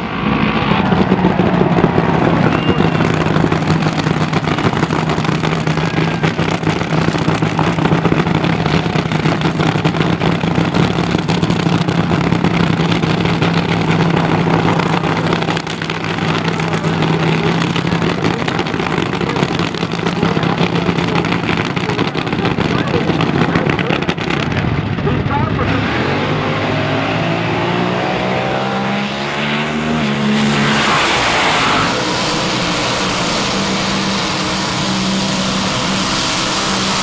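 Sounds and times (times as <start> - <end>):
drag racing engine idling: 0.0 - 28.9, 29.7 - 37.0.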